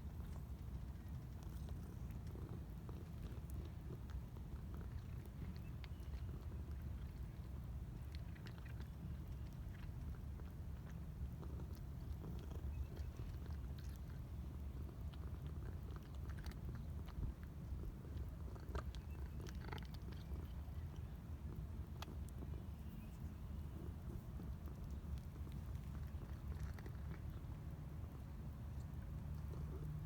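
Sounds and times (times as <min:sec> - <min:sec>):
cat crunching food: 0:00.0 - 0:30.0
steady low rumble: 0:00.0 - 0:30.0.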